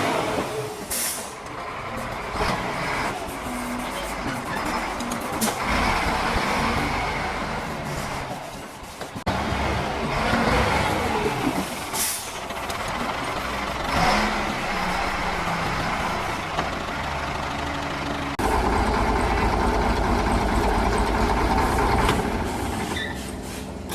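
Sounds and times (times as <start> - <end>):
heavy diesel engine running: 0.0 - 23.9.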